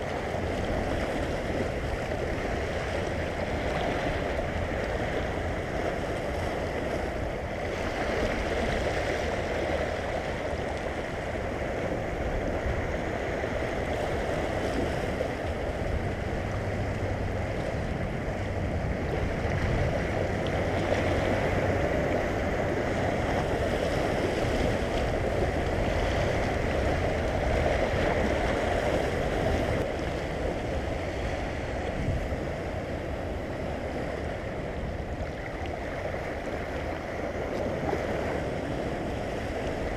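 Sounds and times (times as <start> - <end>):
water lapping over rocks: 0.0 - 39.9.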